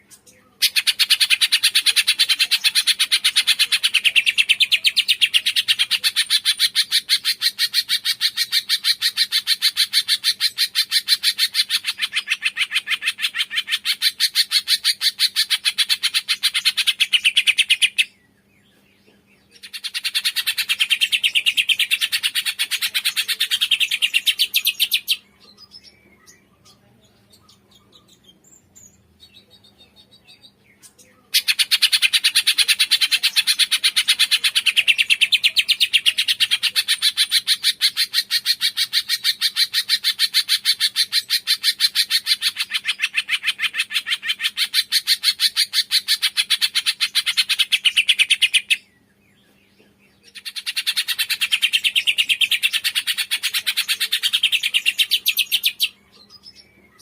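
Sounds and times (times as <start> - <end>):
songbird chirping rapidly: 0.0 - 57.0.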